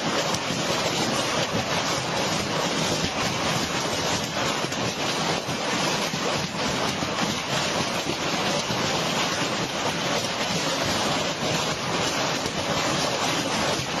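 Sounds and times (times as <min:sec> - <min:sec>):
hail and heavy rain pelting: 0:00.0 - 0:14.0.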